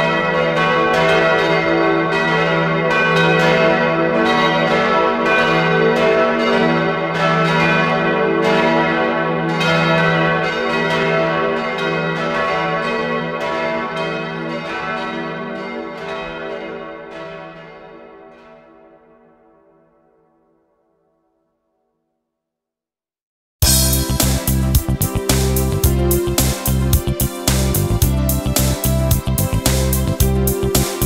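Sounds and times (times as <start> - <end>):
church bells ringing: 0.0 - 20.7, 23.6 - 31.0.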